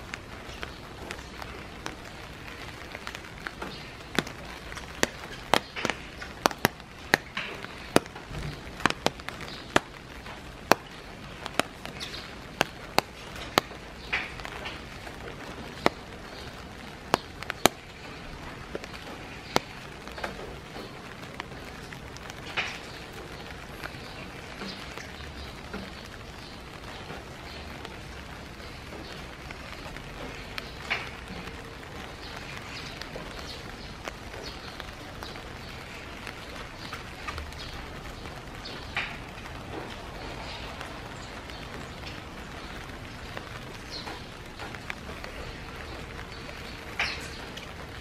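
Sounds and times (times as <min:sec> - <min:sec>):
large raindrops tapping: 0:00.0 - 0:48.0
steady rain: 0:00.0 - 0:48.0.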